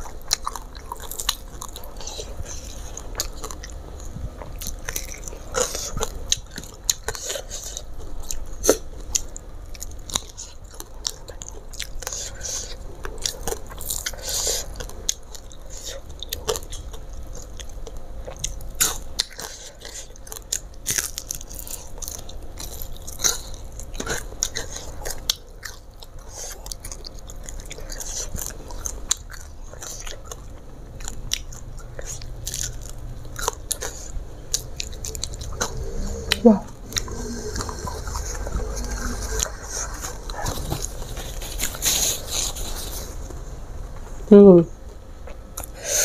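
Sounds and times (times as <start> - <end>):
person chewing crunchy fish: 0.0 - 43.2.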